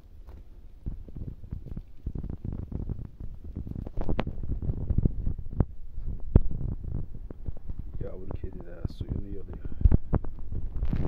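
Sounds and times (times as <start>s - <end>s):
low thumps: 0.2s - 11.0s.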